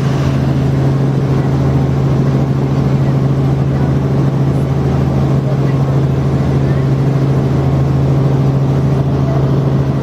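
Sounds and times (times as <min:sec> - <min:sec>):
helicopter drone: 0:00.0 - 0:10.0.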